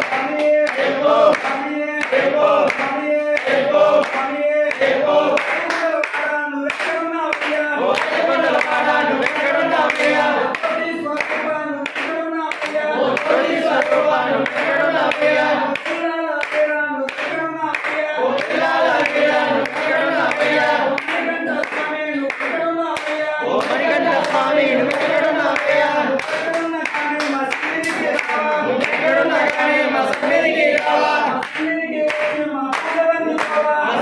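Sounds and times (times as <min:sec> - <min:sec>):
men singing together: 0:00.0 - 0:34.0
rhythmic hand-clapping: 0:00.0 - 0:34.0.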